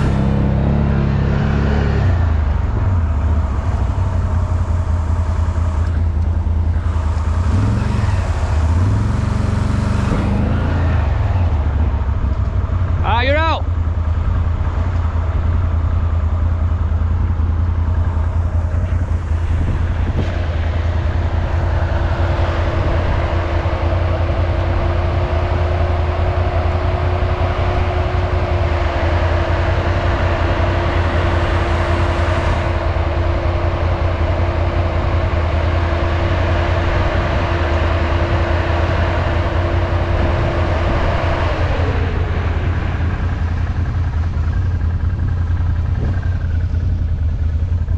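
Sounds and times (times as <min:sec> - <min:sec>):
atv engine rumbling: 0:00.0 - 0:47.9
steady whine: 0:00.0 - 0:47.9.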